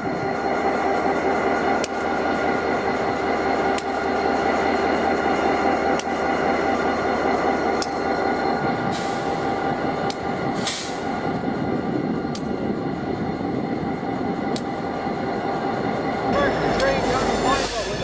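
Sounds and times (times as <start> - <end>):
diesel locomotive drone: 0.0 - 18.0.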